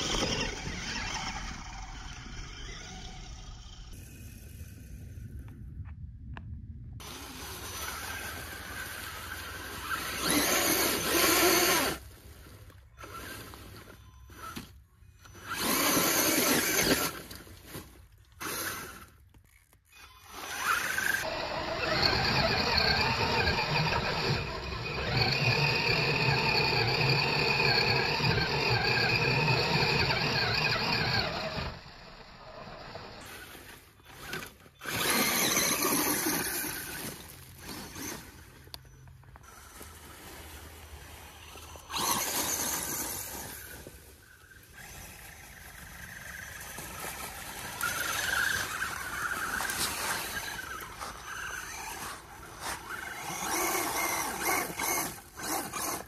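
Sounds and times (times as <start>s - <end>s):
toy car motor whining: 0.0s - 4.2s, 7.0s - 56.0s
wheels over dry leaves: 0.0s - 4.6s, 7.0s - 56.0s.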